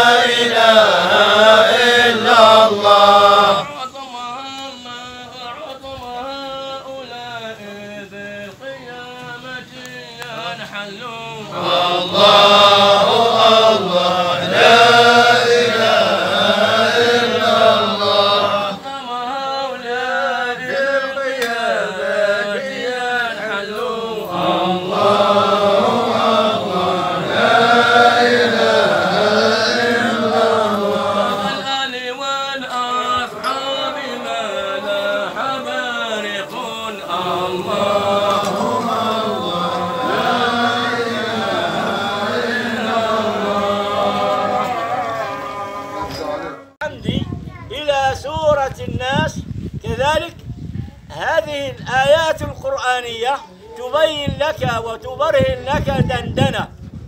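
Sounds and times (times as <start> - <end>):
men chanting: 0.0 - 46.8.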